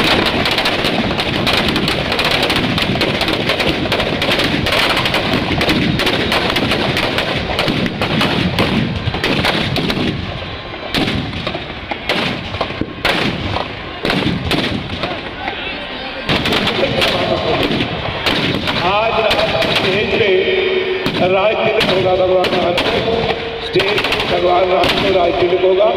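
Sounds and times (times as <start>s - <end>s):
firecrackers crackling: 0.0s - 25.9s.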